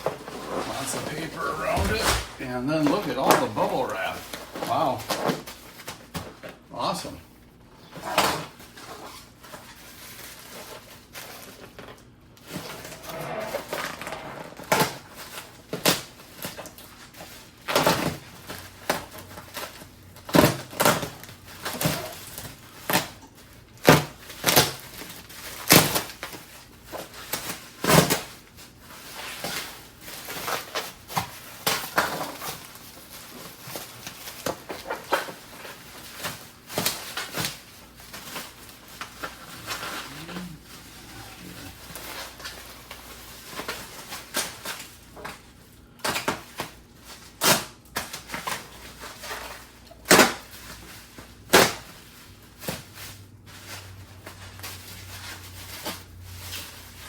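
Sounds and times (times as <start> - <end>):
paper and bubble wrap crinkling: 0.0 - 57.0.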